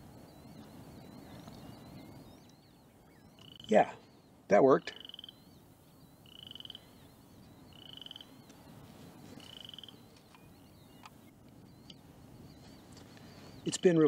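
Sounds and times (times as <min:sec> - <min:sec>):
frogs calling in pulsed trills: 0:00.0 - 0:14.0.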